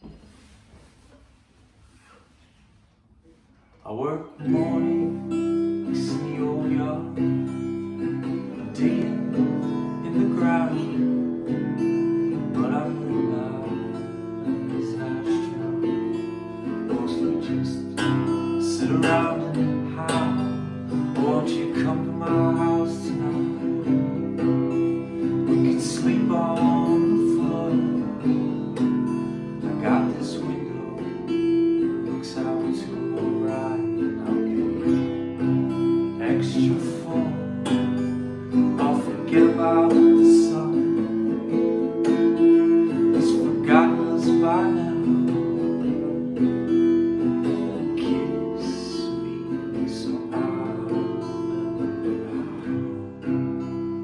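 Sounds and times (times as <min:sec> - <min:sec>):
acoustic guitar strumming chords: 0:02.7 - 0:54.0.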